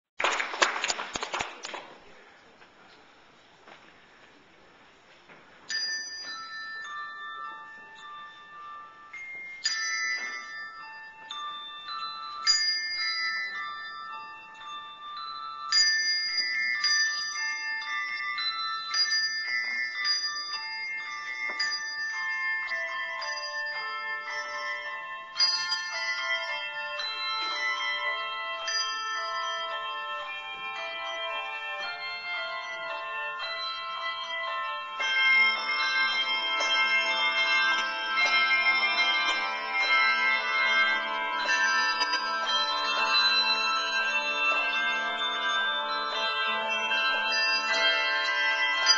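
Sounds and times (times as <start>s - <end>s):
handbell choir ringing: 5.7s - 48.9s.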